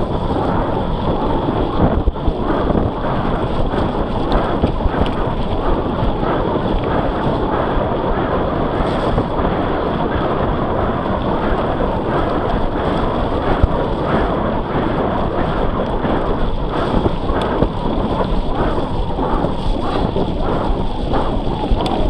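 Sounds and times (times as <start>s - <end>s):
bike tyre and drivetrain rumble: 0.0s - 22.0s
wind buffeting microphone: 0.0s - 22.0s.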